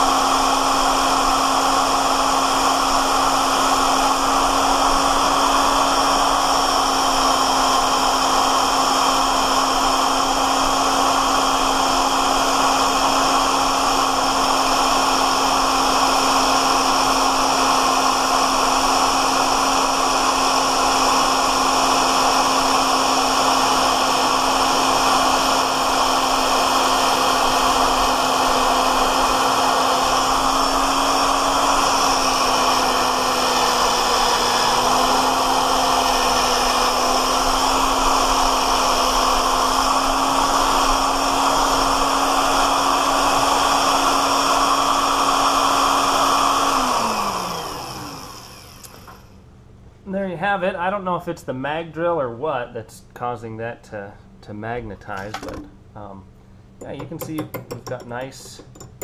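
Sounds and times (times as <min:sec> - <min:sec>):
drill bit cutting into steel: 0:00.0 - 0:49.3, 0:56.8 - 0:59.0
drill press motor running: 0:00.0 - 0:49.4, 0:56.8 - 0:59.0.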